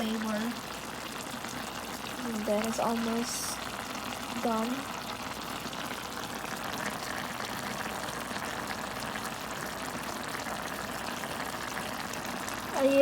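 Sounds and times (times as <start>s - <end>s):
sauce bubbling and sizzling in pan: 0.0s - 13.0s.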